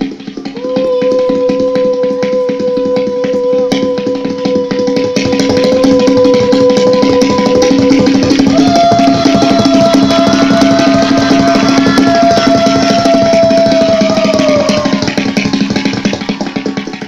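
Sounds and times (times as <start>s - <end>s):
fast tabla drumming: 0.0s - 17.0s
long held tone: 0.4s - 16.3s.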